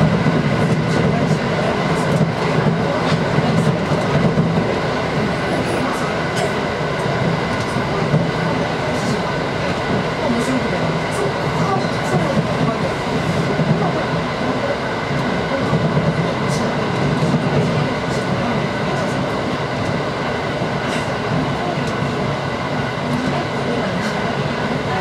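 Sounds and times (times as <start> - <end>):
train rolling noise: 0.0 - 25.0.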